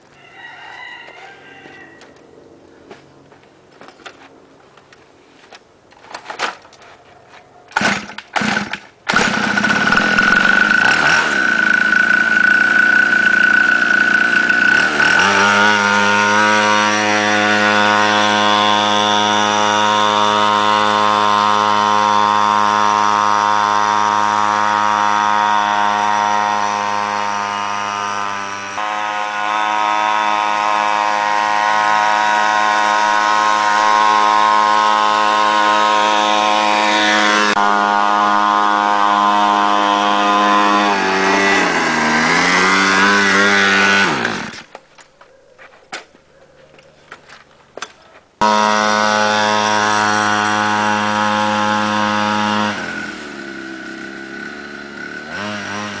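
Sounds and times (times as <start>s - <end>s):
two-stroke engine starting and running: 7.7s - 45.1s, 47.1s - 56.0s.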